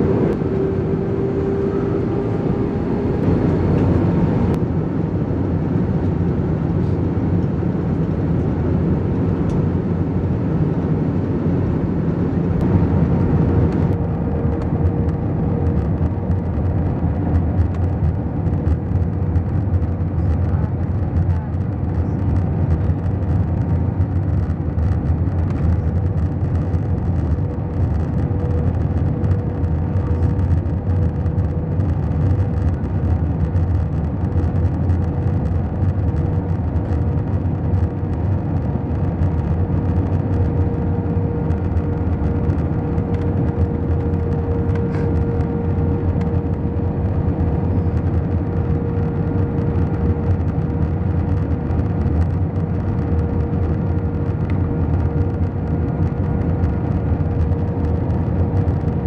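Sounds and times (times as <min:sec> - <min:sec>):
aircraft cabin rumble and airflow: 0:00.0 - 0:59.0
jet engine whine: 0:00.0 - 0:59.0.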